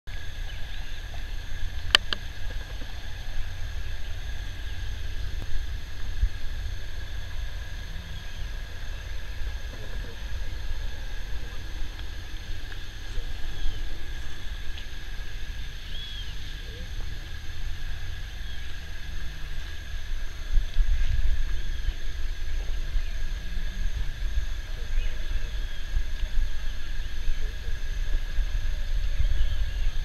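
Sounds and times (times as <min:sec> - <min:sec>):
wind buffeting microphone: 0:00.2 - 0:30.0.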